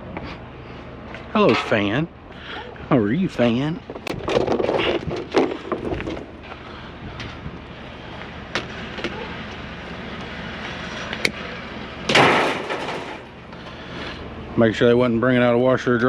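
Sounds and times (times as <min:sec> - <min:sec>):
vehicle engine and road hum: 0:00.0 - 0:16.0.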